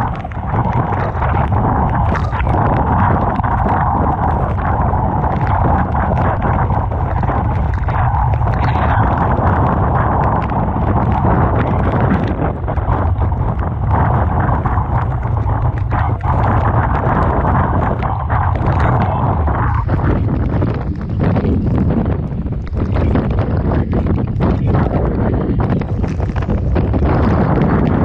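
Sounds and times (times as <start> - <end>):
rough sea and breaking waves: 0.0 - 28.0
wind buffeting microphone: 0.0 - 28.0.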